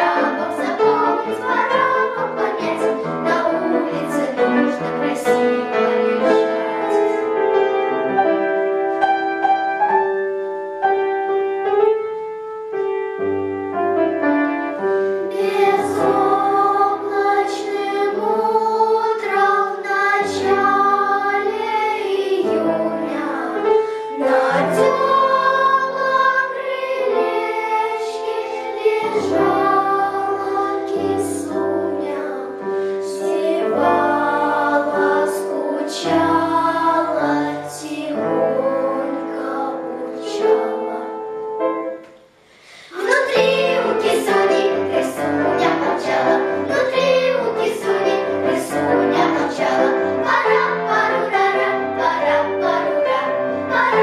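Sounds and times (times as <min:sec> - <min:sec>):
girls' choir singing: 0:00.0 - 0:07.6, 0:15.2 - 0:41.4, 0:42.6 - 0:54.0
upright piano accompaniment: 0:00.0 - 0:54.0.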